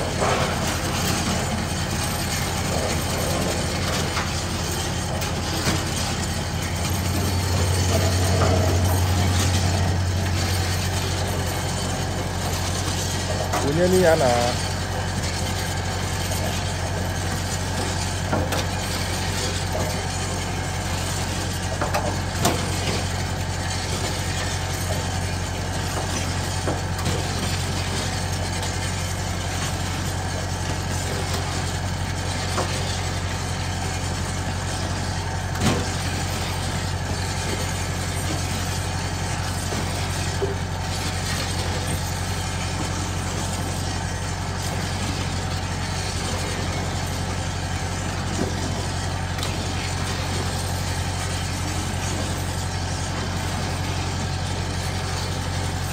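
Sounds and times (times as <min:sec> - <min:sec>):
electric gear motor humming: 0:00.0 - 0:55.9.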